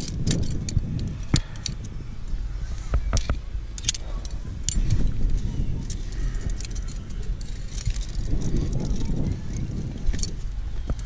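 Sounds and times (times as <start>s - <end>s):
carabiners clinking: 0.0s - 11.0s
steady low rumble: 0.0s - 11.0s.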